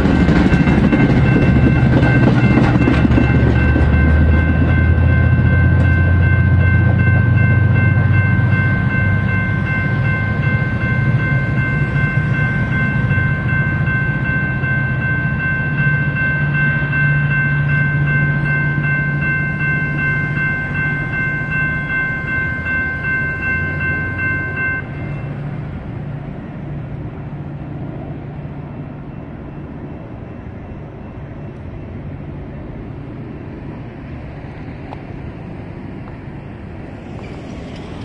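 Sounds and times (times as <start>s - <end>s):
railroad crossing bell ringing: 0.0s - 38.0s
train passing: 0.0s - 38.0s.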